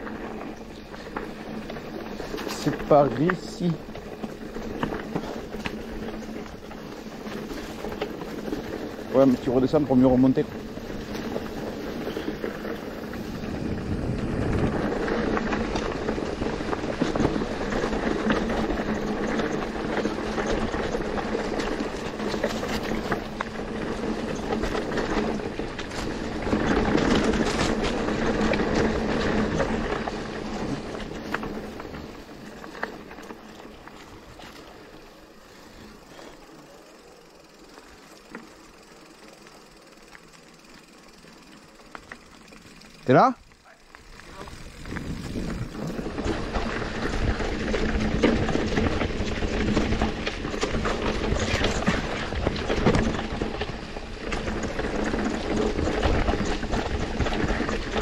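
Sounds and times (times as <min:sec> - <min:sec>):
bike rattles and knocks: 0:00.0 - 0:58.0
wind and tyre noise: 0:00.0 - 0:58.0.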